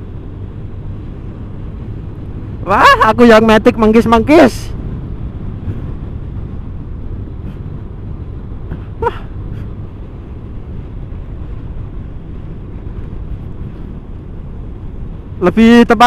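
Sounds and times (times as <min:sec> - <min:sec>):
tyres on road: 0:00.0 - 0:16.0
wind buffeting microphone: 0:00.0 - 0:16.0.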